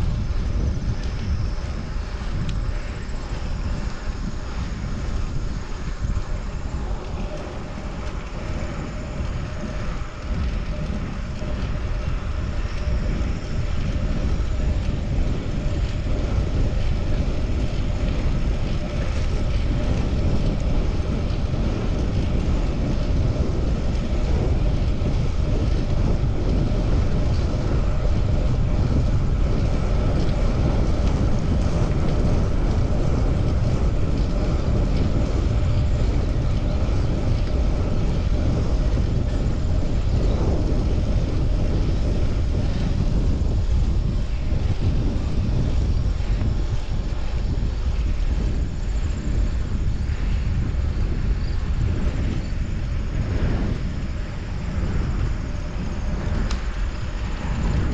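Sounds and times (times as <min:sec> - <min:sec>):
road and traffic noise: 0:00.0 - 0:57.9
wind rushing over microphone: 0:00.0 - 0:57.9.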